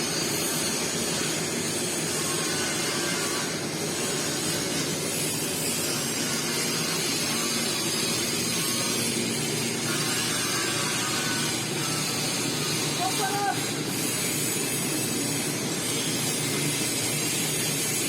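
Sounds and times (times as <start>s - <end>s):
steady mechanical noise with hiss: 0.0s - 18.0s.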